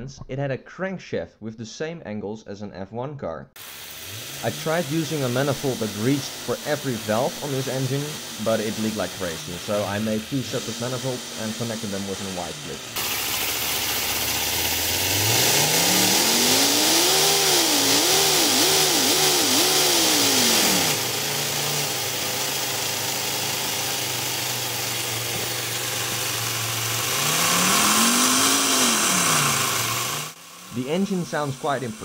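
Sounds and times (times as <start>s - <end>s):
air engine revving: 3.6s - 32.0s
hiss of air: 3.6s - 32.0s.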